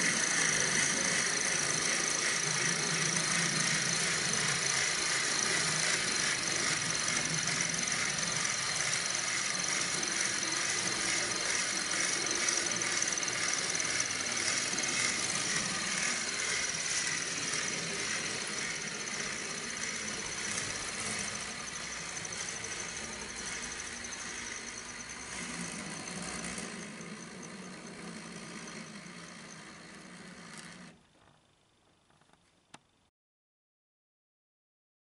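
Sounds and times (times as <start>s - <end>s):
model locomotive motor whine: 0.0s - 31.0s
wheels rolling on rails: 0.0s - 31.4s.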